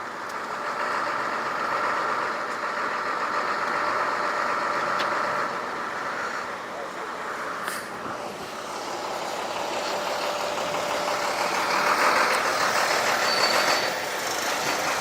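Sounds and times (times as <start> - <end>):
passing vehicles hissing: 0.0 - 15.0.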